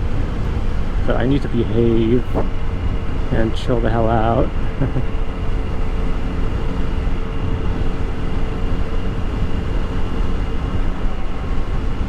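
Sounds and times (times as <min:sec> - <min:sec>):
motorcycle engine hum: 0:00.0 - 0:12.0
wind rush on microphone: 0:00.0 - 0:12.0.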